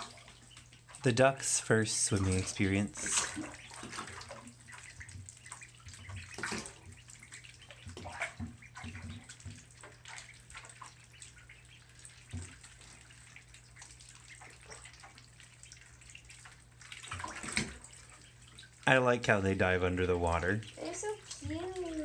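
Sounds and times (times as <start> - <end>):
small water splashes and drips: 0.0 - 22.0.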